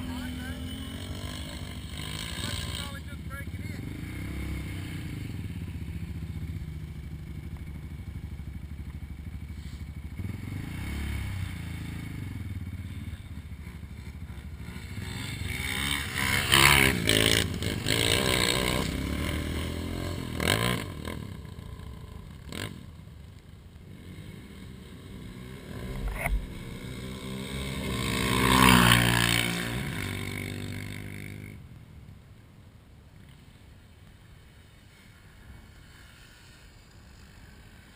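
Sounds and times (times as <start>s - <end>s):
atv engines revving hard: 0.0s - 23.2s, 23.9s - 31.5s.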